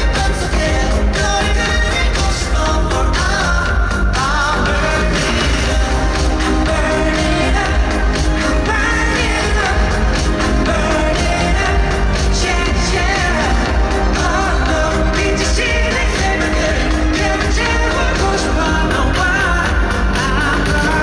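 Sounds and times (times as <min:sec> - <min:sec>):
heavy bass beat: 0:00.0 - 0:21.0
male group singing pop song: 0:00.0 - 0:21.0.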